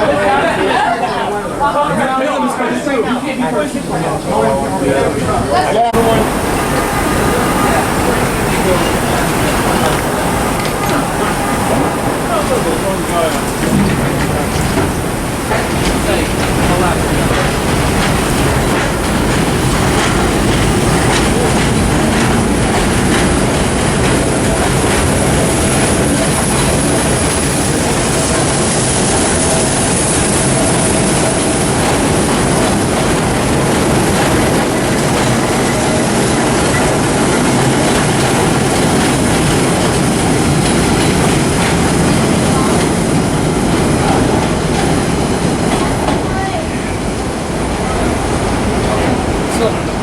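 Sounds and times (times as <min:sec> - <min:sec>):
subway train wheels rumbling: 0:00.0 - 0:50.0.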